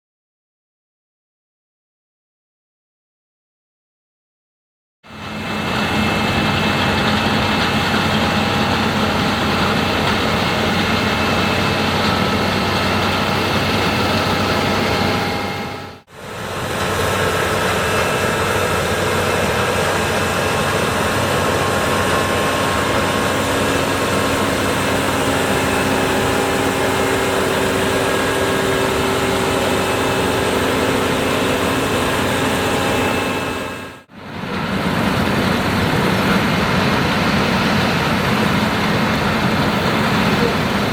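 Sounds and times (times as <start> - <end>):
combine harvester running: 5.1 - 40.9
machinery whining tones: 5.1 - 40.9.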